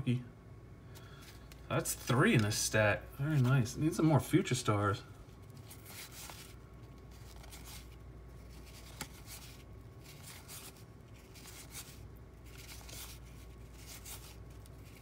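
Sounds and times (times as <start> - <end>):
cardboard cards rustling: 0.9 - 4.4, 5.1 - 15.0.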